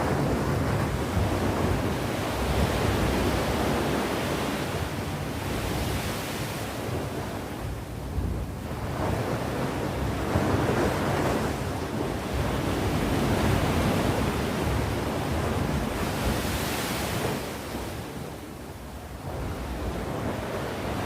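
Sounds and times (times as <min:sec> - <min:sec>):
sea waves breaking on shore: 0:00.0 - 0:21.0
wind on microphone: 0:00.0 - 0:21.0.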